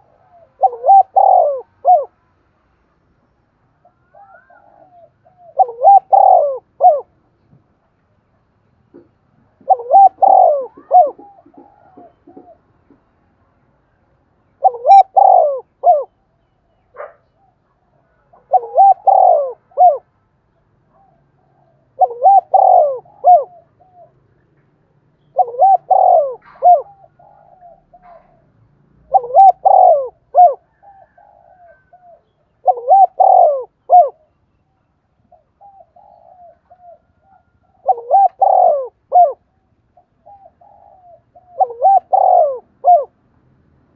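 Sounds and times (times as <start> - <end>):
dove cooing: 0.0 - 2.2, 3.8 - 7.2, 8.9 - 13.2, 14.5 - 16.2, 16.9 - 20.1, 20.8 - 24.6, 25.2 - 34.4, 35.2 - 43.2.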